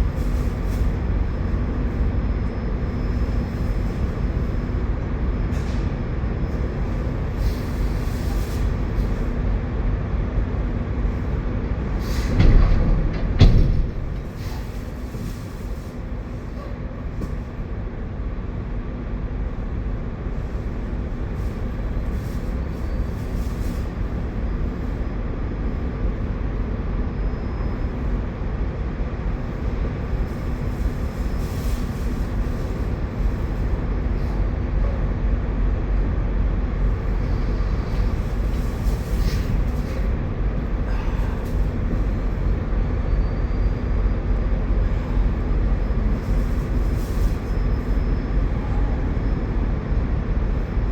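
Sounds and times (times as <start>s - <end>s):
low engine drone: 0.0s - 50.9s.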